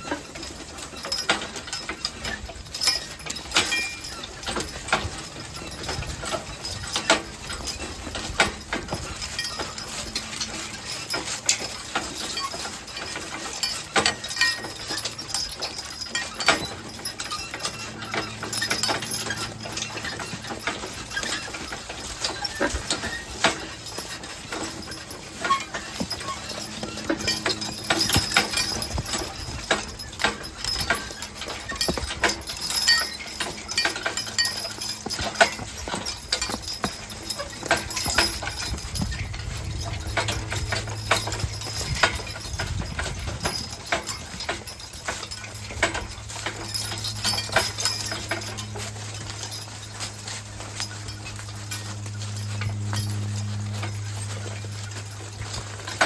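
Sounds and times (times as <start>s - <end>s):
horse hooves clopping: 0.0s - 56.0s
scattered clinks and knocks: 0.0s - 56.0s.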